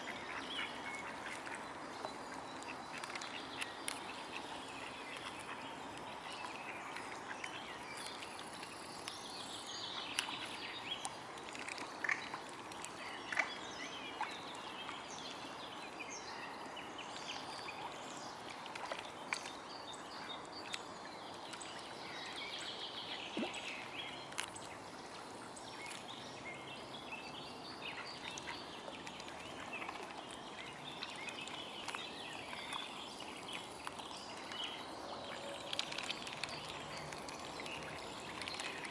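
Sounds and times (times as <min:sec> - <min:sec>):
outdoor background noise: 0:00.0 - 0:38.9
small splashes and drips: 0:00.1 - 0:15.8, 0:16.6 - 0:38.9.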